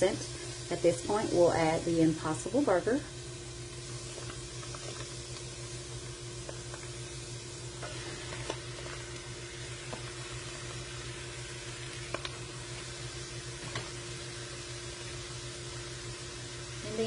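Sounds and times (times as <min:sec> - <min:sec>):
steady low hum: 0:00.0 - 0:17.0
vegetables sizzling in oil: 0:00.0 - 0:17.0.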